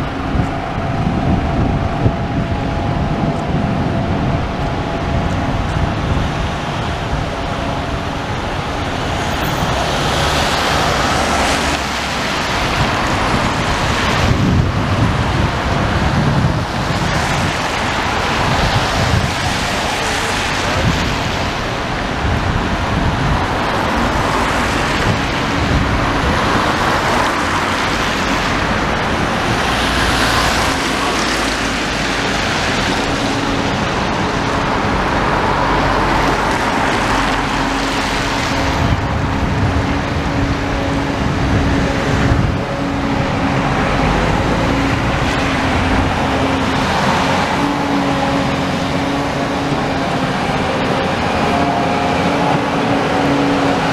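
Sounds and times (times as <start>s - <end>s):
street traffic: 0.0s - 53.9s
vehicles passing: 0.0s - 53.9s
wind buffeting microphone: 0.0s - 53.9s.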